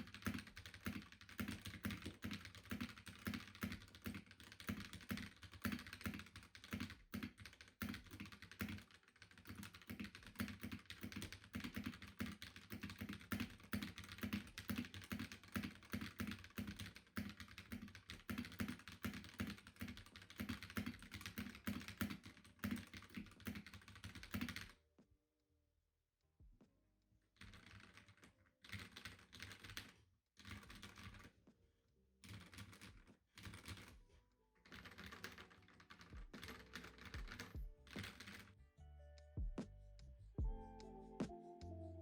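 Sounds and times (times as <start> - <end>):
fast mechanical keyboard typing: 0.0 - 24.7, 27.4 - 31.4, 32.2 - 33.9, 34.7 - 38.5.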